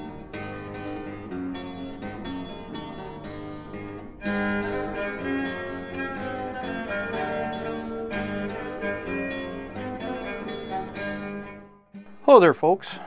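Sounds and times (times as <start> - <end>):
plucked strings: 0.0 - 12.3
bowed strings playing held notes: 0.0 - 12.6.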